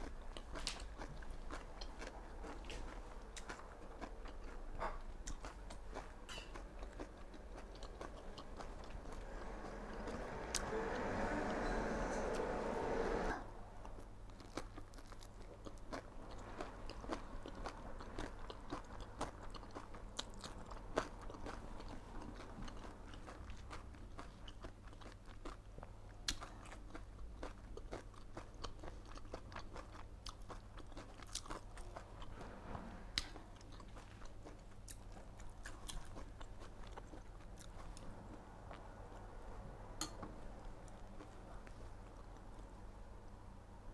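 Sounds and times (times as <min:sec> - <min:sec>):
person chewing crunchy food: 0:00.0 - 0:10.6, 0:13.8 - 0:32.4, 0:33.2 - 0:42.8
faint low hum: 0:00.0 - 0:43.9.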